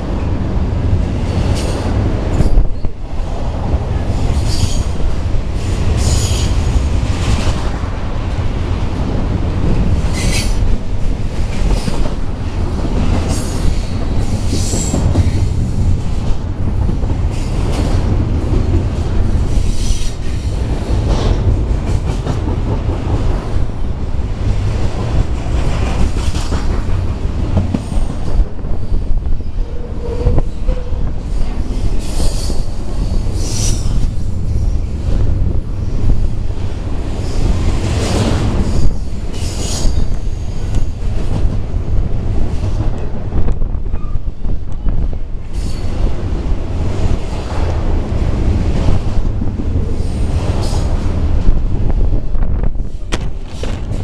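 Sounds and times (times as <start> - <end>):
freight train wheels rumbling: 0.0 - 54.0
wind buffeting microphone: 0.0 - 54.0.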